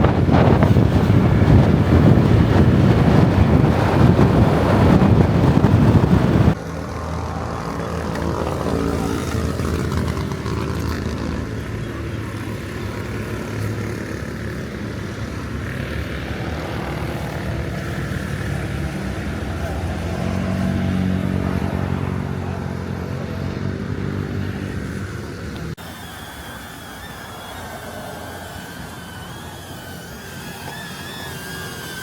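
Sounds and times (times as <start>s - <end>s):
motorbike engine droning: 0.0s - 32.0s
wind roaring on microphone: 0.0s - 32.0s.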